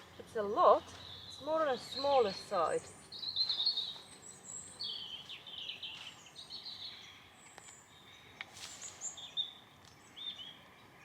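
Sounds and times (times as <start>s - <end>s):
songbirds chirping and warbling: 0.0s - 11.0s.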